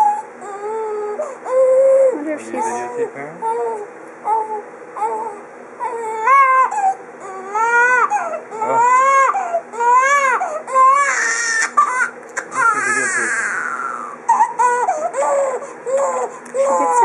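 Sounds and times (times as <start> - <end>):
newborn baby crying: 0.0 - 17.0.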